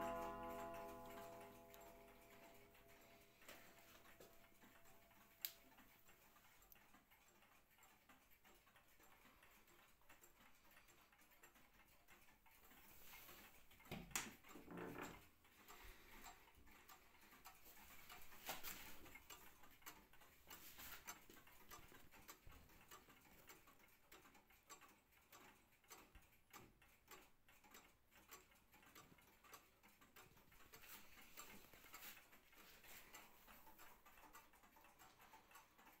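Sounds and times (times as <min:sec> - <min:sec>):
pendulum wall clock ticking: 0:00.0 - 0:36.0.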